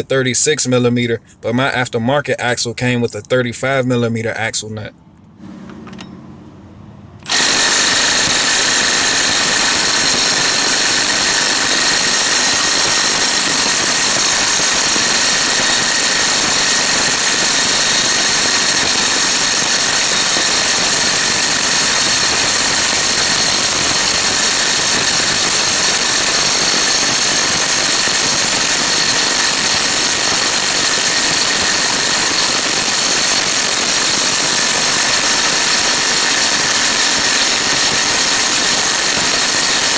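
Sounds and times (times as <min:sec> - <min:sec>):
impact wrench hammering: 0:07.2 - 0:39.9.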